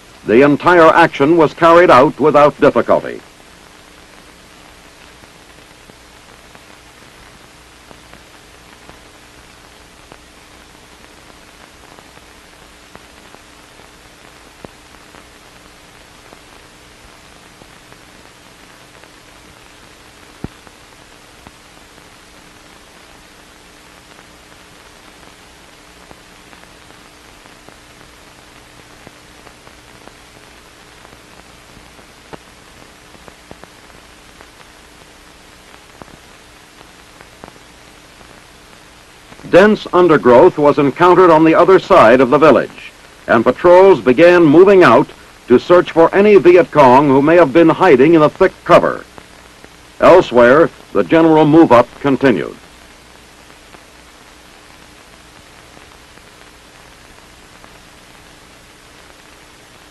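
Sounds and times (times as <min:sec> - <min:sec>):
faint hum: 0:00.0 - 0:59.9
steady hiss: 0:00.0 - 0:59.9.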